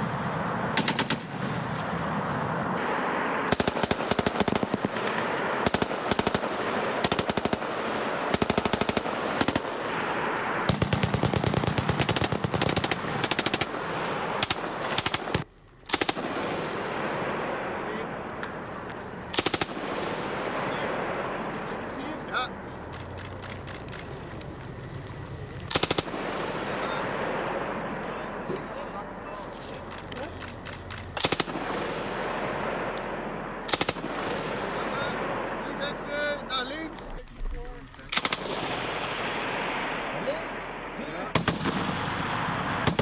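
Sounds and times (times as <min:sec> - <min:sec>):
machine gun bursts: 0:00.6 - 0:24.4, 0:25.6 - 0:37.1, 0:37.9 - 0:39.8, 0:41.1 - 0:43.0.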